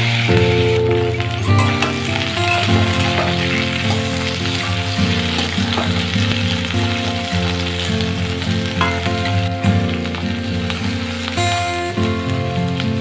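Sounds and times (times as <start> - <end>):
background music with held notes: 0.0 - 13.0
vegetable slices sizzling in oil: 0.0 - 13.0.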